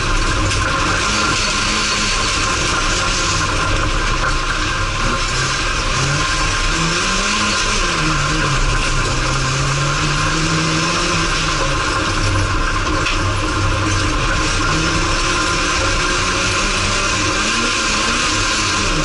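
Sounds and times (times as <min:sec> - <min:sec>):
racing car engine revving: 0:00.0 - 0:19.0.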